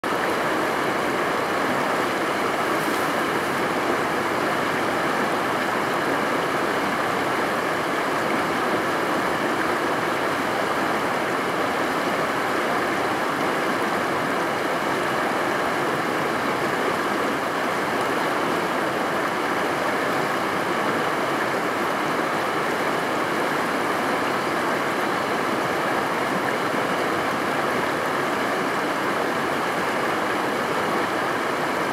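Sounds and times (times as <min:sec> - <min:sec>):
stream rushing: 0:00.0 - 0:31.9.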